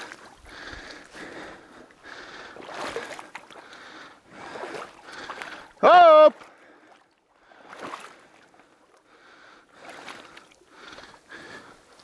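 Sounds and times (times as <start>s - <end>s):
person wading through water: 0.0s - 12.0s.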